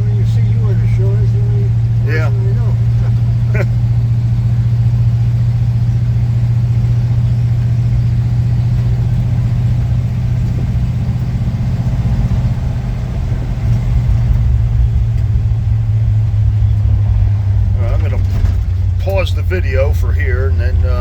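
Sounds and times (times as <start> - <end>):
pickup truck engine driving: 0.0 - 21.0.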